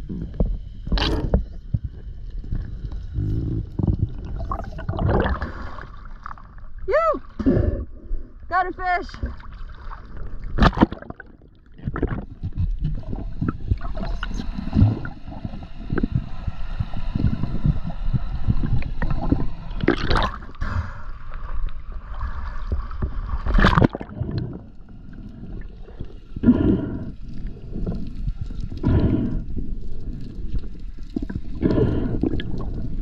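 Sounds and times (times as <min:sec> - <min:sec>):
water gurgling and sloshing: 0:00.0 - 0:33.0.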